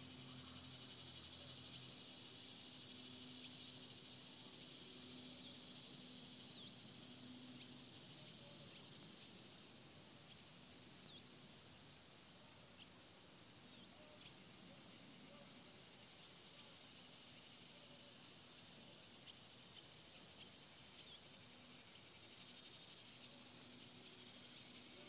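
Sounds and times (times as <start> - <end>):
insects humming: 0.0 - 25.0.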